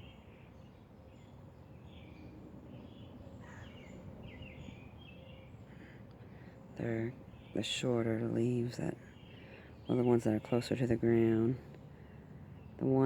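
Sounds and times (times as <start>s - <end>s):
low outdoor rumble: 0.0s - 13.0s
songbirds chirping: 0.0s - 13.0s.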